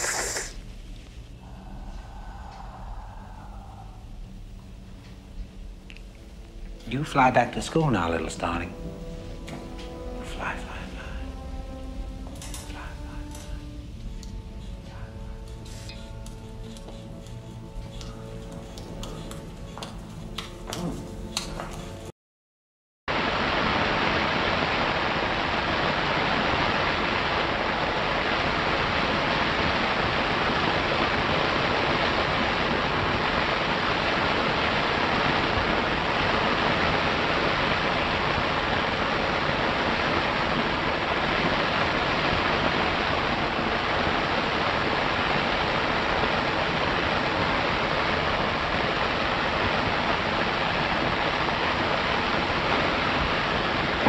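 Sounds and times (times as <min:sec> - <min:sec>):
film soundtrack hiss and rumble: 0:00.0 - 0:22.1, 0:23.1 - 0:54.0.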